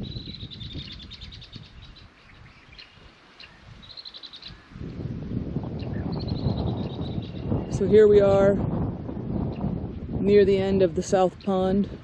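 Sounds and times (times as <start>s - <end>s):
blackbirds singing: 0.0s - 12.0s.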